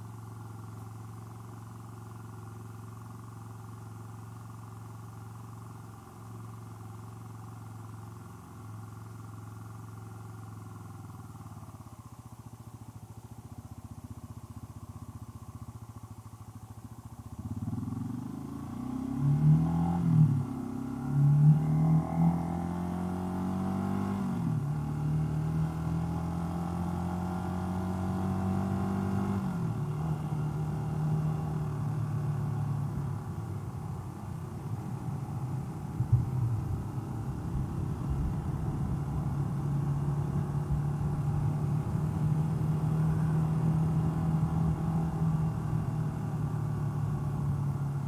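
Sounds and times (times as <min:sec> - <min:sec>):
motorcycle engine running: 0:00.0 - 0:48.0
road and wind noise: 0:00.0 - 0:48.0.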